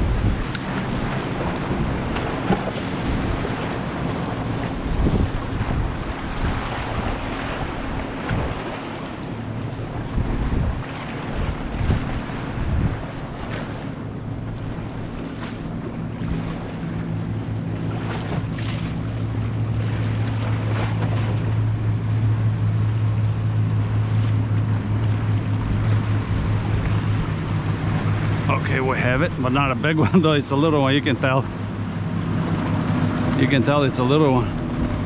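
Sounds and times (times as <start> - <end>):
boat engine humming: 0.0 - 35.0
waves washing: 0.0 - 35.0
wind buffeting microphone: 0.0 - 35.0.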